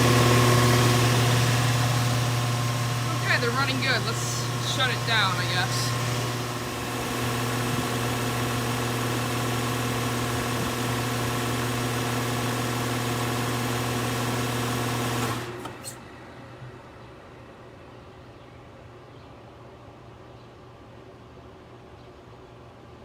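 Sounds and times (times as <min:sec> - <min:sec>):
air conditioner units humming: 0:00.0 - 0:23.0.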